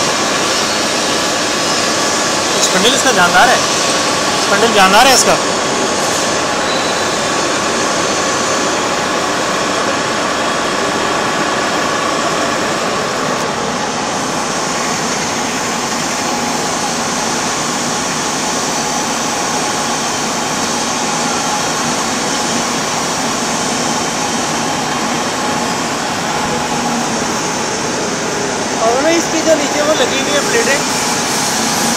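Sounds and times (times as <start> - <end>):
machine tool running with whine: 0.0 - 31.9.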